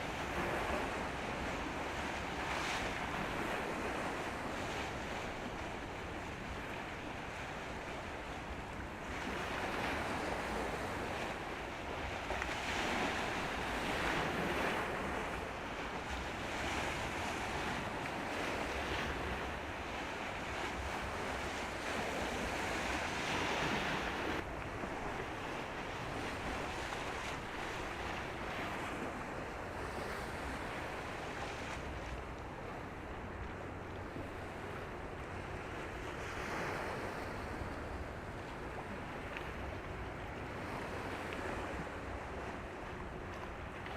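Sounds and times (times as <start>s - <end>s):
sea water rushing: 0.0s - 43.9s
wind on microphone: 0.0s - 43.9s.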